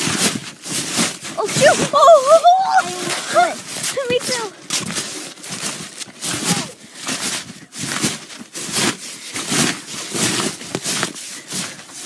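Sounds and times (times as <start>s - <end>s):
bouncing on icy trampoline: 0.0s - 12.0s.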